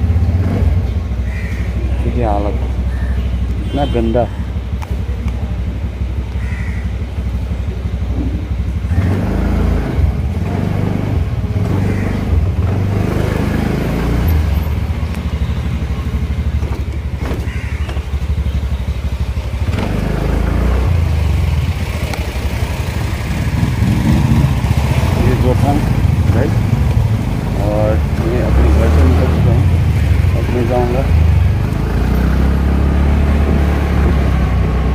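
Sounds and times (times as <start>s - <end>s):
road traffic: 0.0s - 34.9s
scooter engine running: 4.3s - 34.9s.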